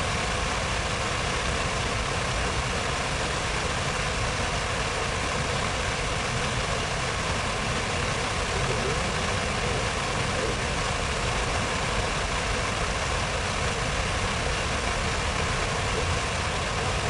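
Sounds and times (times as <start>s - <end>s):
rush of city noise: 0.0s - 17.0s.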